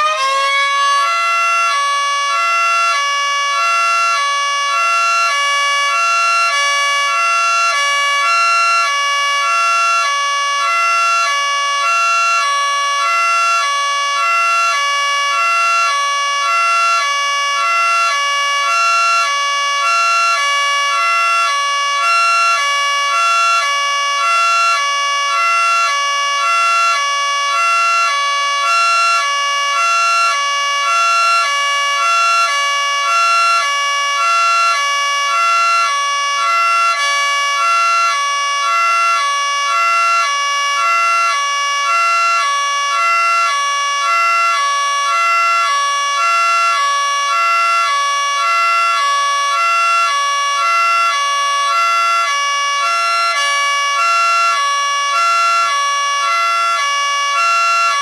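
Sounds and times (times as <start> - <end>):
electric siren hi-lo tones: 0.0 - 58.0.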